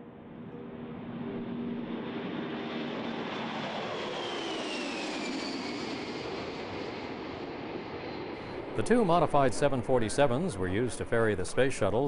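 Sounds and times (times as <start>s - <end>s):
high jet whine: 0.0s - 12.0s
jet engines roaring: 0.0s - 12.0s.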